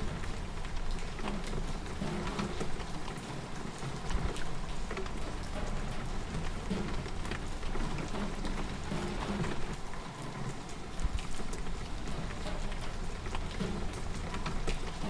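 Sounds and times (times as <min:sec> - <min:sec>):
rain falling: 0:00.0 - 0:15.0
raindrops clicking on a surface: 0:00.0 - 0:15.0.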